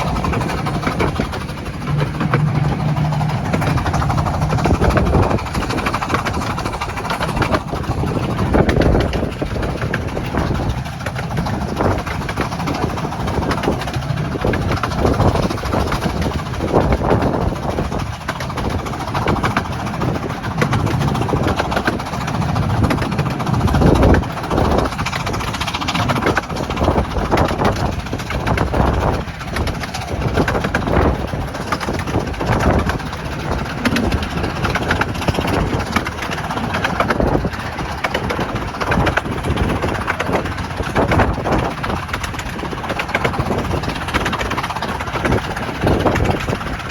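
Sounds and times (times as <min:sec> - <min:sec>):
miniature train rumbling: 0:00.0 - 0:46.9.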